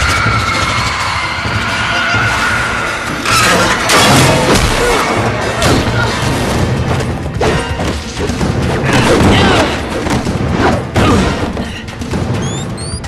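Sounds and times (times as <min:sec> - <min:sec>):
dramatic music score: 0:00.0 - 0:13.0.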